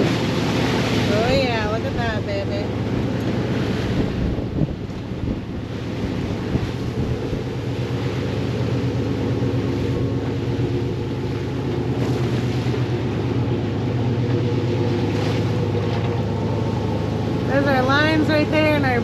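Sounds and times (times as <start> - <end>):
boat engine running: 0.0 - 19.0
rushing wake and rough sea: 0.0 - 19.0.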